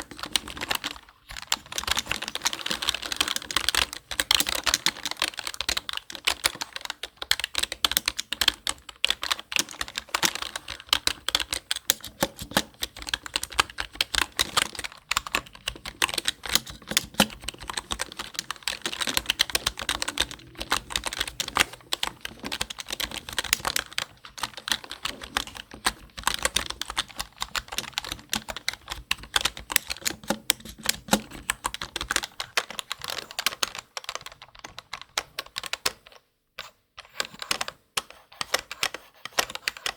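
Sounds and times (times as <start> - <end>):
computer keyboard typing: 0.0 - 39.9.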